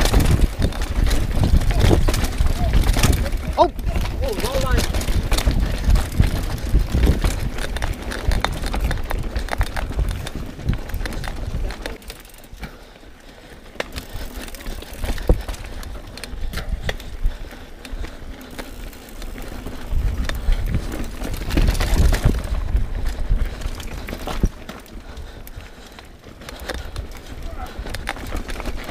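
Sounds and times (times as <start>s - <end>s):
wind buffeting microphone: 0.0s - 12.6s, 14.0s - 25.9s
bike rattling over rocks: 0.0s - 28.9s.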